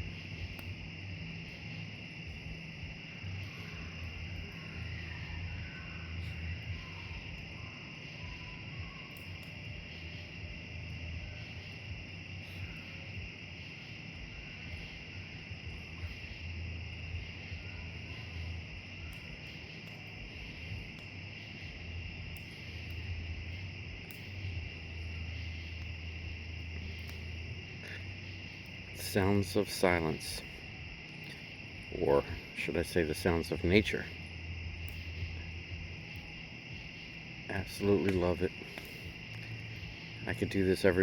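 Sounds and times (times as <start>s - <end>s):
crickets and insects chirping: 0.0s - 41.0s
low hum: 0.0s - 41.0s.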